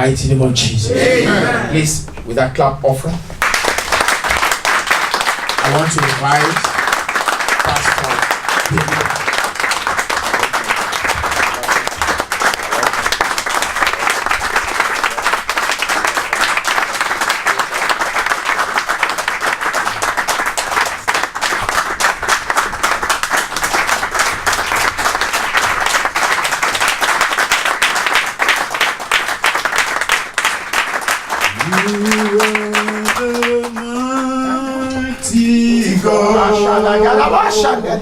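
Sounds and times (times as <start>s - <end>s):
crowd applauding: 3.4s - 34.7s.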